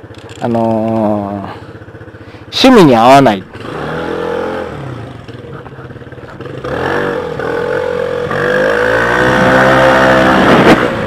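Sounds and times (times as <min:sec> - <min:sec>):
scooter engine accelerating: 0:00.0 - 0:11.0.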